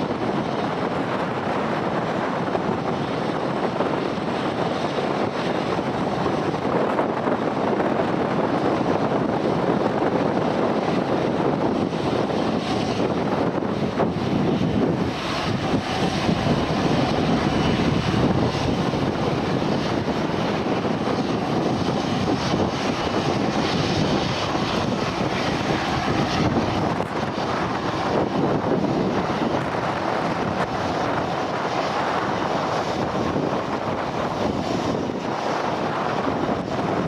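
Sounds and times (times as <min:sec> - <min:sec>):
aircraft engines running: 0:00.0 - 0:37.0
wind buffeting microphone: 0:00.0 - 0:37.0.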